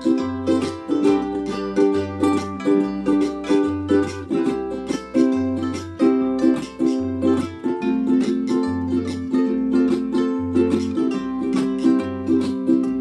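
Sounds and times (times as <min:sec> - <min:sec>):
ukuleles strumming chords: 0:00.0 - 0:13.0.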